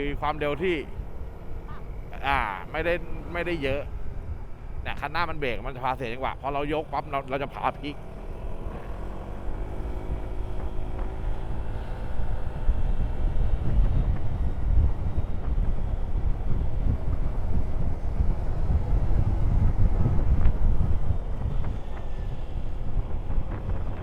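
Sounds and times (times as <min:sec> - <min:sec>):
motorcycle engine at speed: 0:00.0 - 0:24.0
wind on microphone: 0:00.0 - 0:24.0.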